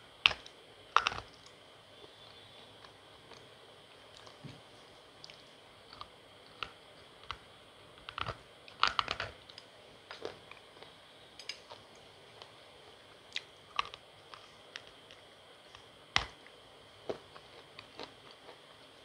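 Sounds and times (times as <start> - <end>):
crunching while chewing: 0.3 - 4.5, 5.1 - 12.6, 13.2 - 19.0.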